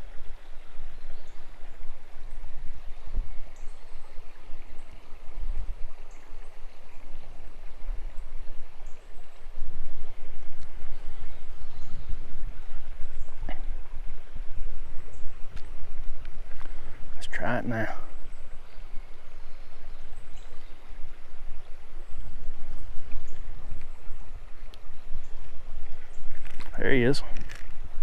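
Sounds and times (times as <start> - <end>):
creek water rushing: 0.0 - 28.0
low rumble on microphone: 0.0 - 28.0.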